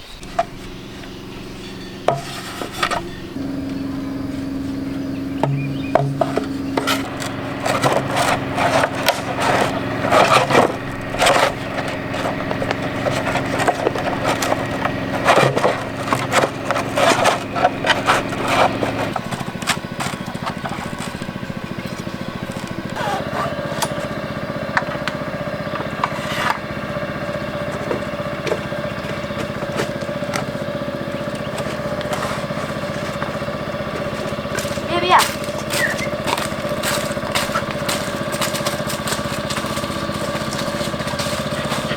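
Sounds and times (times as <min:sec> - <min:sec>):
low hum: 0:00.0 - 0:41.9
scraping and knocking on wood: 0:01.9 - 0:03.6, 0:05.4 - 0:41.9.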